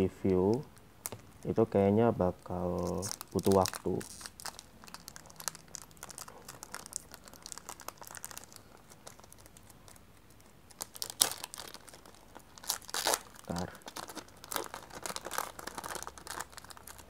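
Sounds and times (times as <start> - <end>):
foil wrapper crinkling: 0.4 - 17.0.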